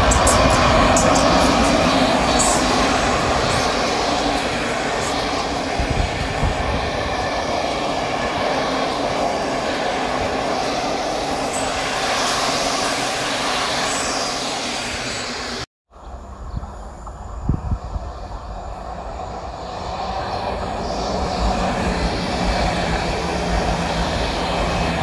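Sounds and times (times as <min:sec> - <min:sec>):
train rolling past: 0:00.0 - 0:25.0.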